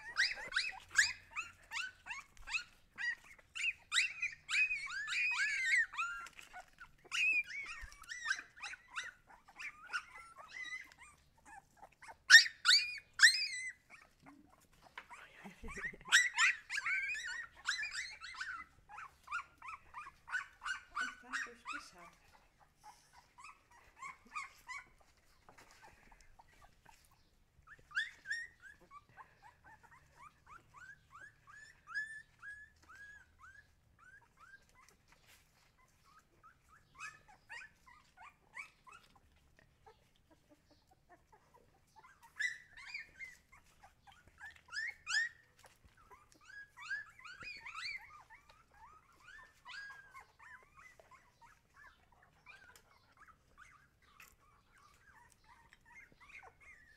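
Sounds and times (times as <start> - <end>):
puppies whimpering: 0.0 - 56.9.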